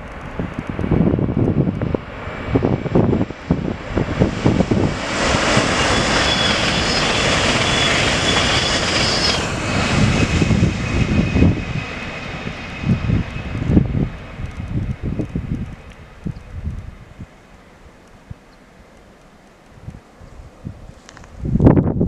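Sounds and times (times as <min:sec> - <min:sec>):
wind buffeting microphone: 0:00.0 - 0:17.4, 0:19.7 - 0:22.0
high-speed train passing: 0:00.0 - 0:21.6.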